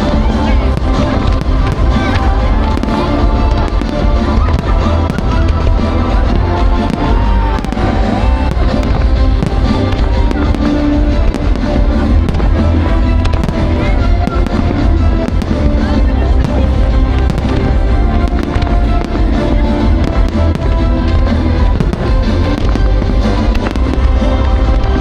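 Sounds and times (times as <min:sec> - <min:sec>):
fireworks bangs and crackles: 0:00.0 - 0:25.0
loud music with strong bass: 0:00.0 - 0:25.0.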